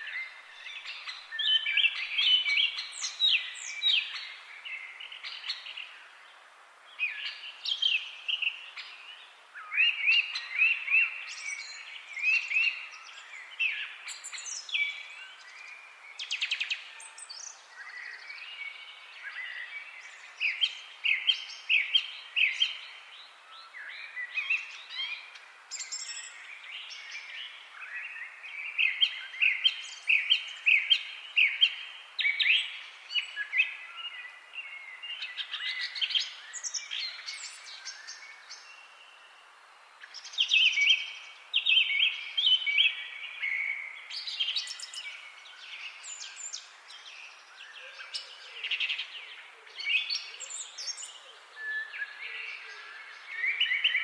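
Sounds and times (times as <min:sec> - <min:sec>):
faint steady hiss: 0:00.0 - 0:54.0
songbirds chirping and singing: 0:00.0 - 0:54.0.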